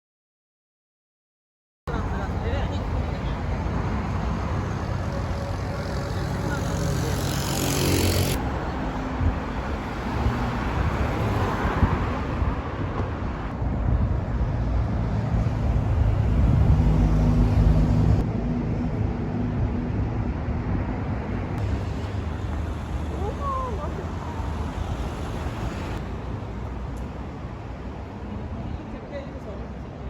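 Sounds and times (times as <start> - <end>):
car engine and road rumble: 1.9 - 29.0.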